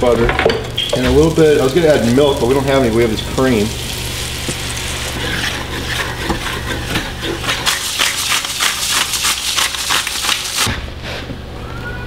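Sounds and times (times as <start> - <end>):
gravy sizzling in a skillet: 0.7 - 10.7.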